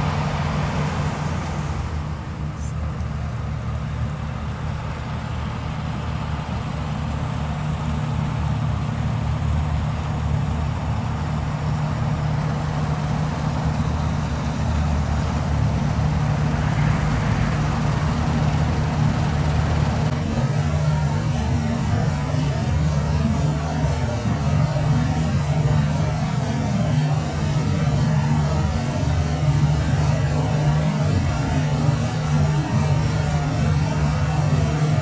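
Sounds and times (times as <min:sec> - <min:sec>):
farm machinery diesel engine running: 0:00.0 - 0:35.0.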